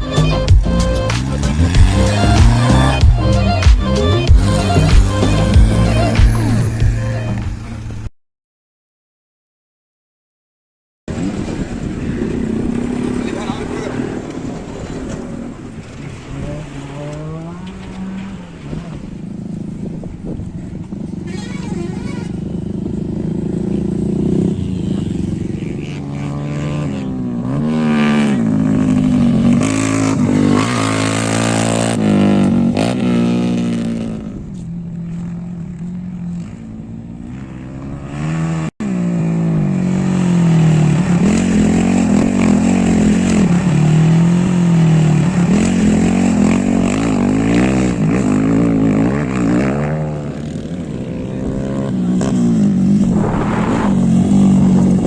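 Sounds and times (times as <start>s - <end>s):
rally vehicle engines revving: 0.0s - 8.1s, 11.1s - 55.0s.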